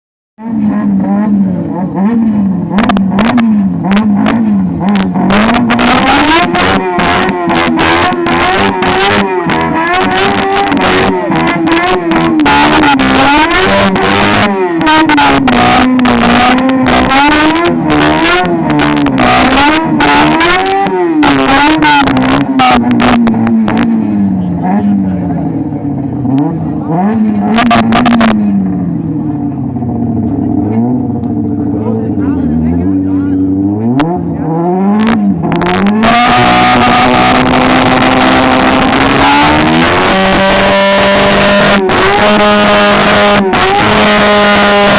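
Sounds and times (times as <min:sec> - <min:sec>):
car engine revving high: 0:00.4 - 0:44.9.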